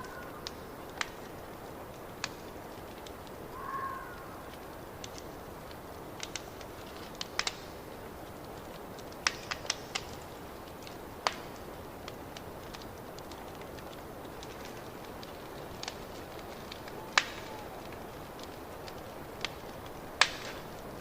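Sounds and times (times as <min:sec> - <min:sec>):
fire crackling: 0:00.0 - 0:21.0
sharp pops of fire: 0:00.0 - 0:21.0.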